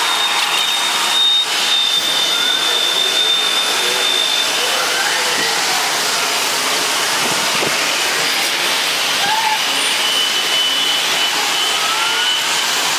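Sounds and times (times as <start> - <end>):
jet engines roaring: 0.0 - 12.9.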